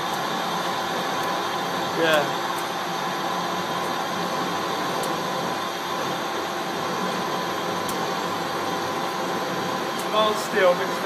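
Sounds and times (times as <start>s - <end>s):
machine whine: 0.0s - 11.0s
metalworking lathe running: 0.0s - 11.0s.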